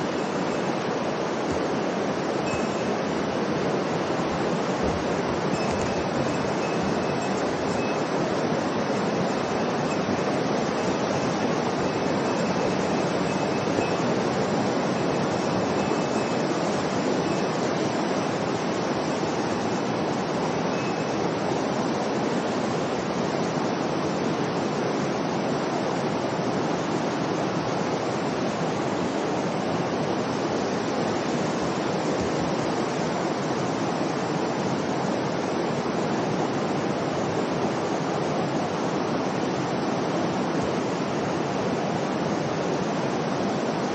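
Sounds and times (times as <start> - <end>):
river water rushing: 0.0 - 43.9.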